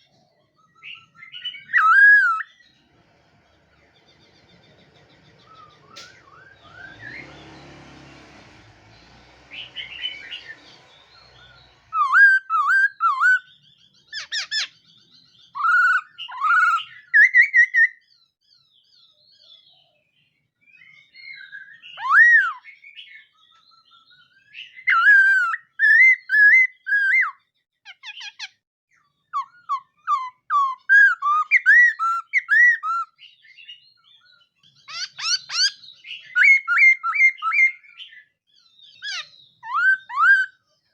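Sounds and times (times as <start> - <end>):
bird singing whistled notes: 0.0 - 2.8, 3.8 - 7.9, 8.9 - 40.9.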